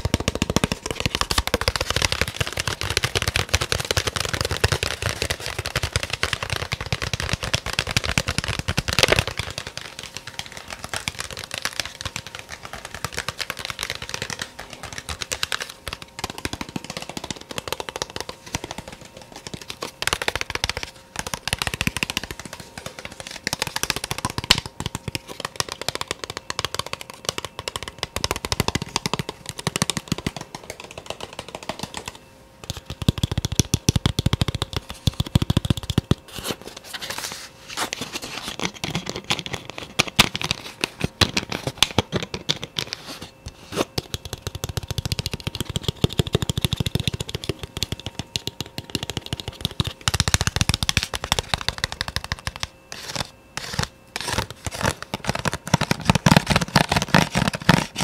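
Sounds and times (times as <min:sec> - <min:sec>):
fast tapping: 0:00.0 - 0:36.2, 0:44.0 - 0:58.0.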